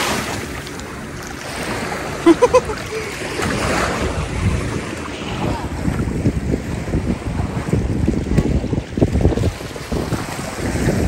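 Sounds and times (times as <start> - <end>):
seawater washing along shore: 0.0 - 11.0
wind on microphone: 0.0 - 11.0.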